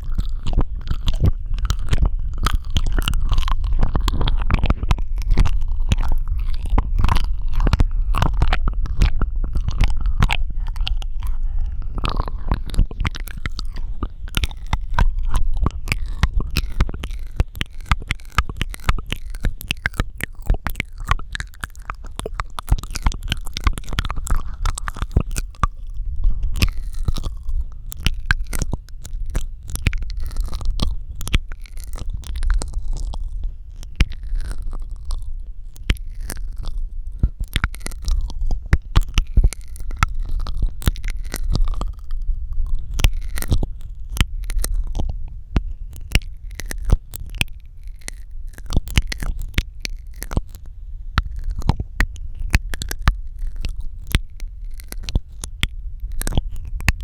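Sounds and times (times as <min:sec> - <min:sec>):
steady low rumble: 0:00.0 - 0:57.0
wet lip and tongue clicks: 0:00.0 - 0:57.0.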